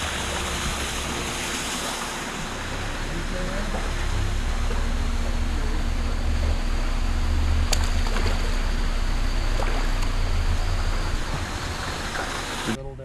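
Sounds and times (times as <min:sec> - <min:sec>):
water lapping around boat: 0:00.0 - 0:12.8.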